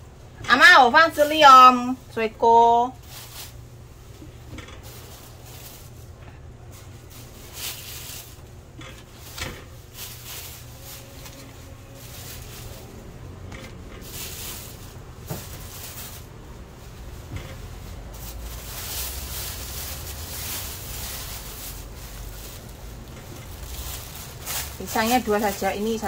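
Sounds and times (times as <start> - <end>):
fruit rustling handling: 2.9 - 26.0.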